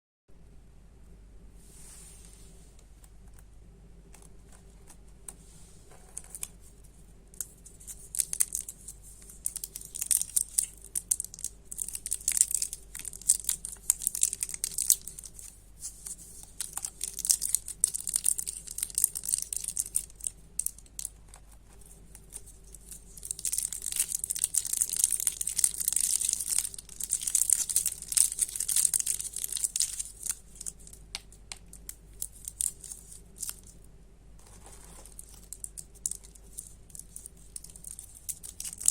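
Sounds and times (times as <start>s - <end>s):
candy wrappers crinkling: 7.4s - 38.9s.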